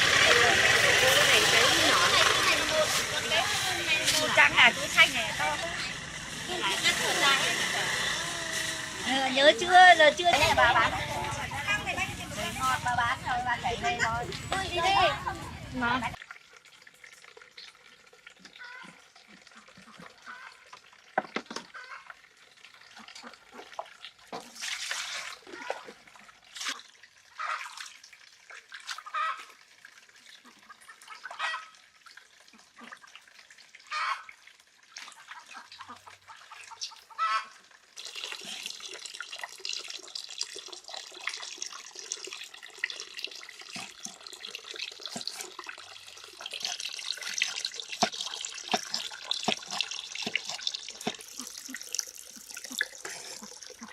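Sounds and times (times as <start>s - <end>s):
running water: 0.0s - 53.9s.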